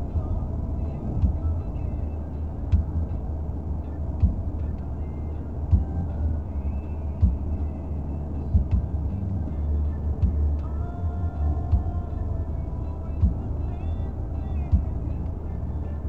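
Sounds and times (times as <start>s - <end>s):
car driving at highway speed: 0.0s - 16.0s.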